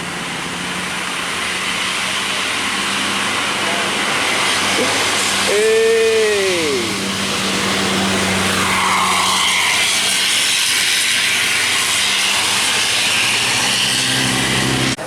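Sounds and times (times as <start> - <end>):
bus passing close: 0.0 - 15.0.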